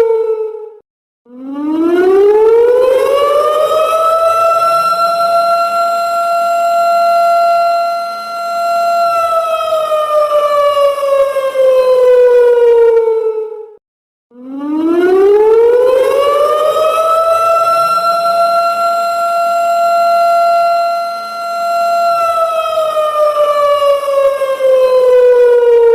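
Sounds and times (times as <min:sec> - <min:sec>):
electronic siren wail: 0:00.0 - 0:25.9.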